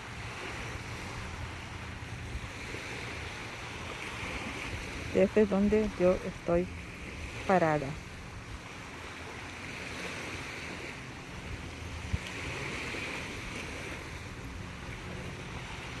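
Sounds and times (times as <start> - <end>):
small waves washing on sand: 0.0 - 16.0.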